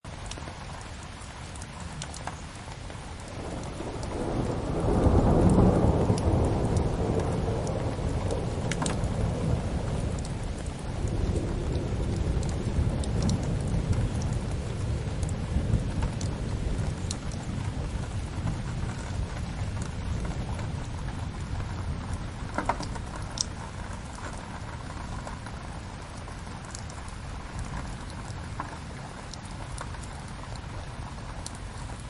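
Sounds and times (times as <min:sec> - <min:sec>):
steady rain: 0:00.0 - 0:32.0
wood fire crackling: 0:00.3 - 0:32.0.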